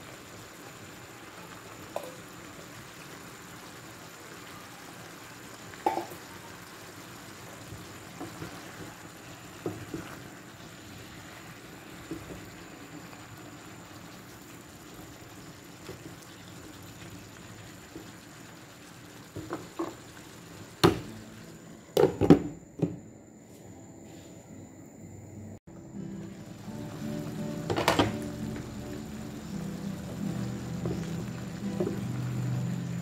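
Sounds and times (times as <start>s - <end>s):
vegetables sizzling in a pan: 0.0s - 22.4s, 25.7s - 33.0s.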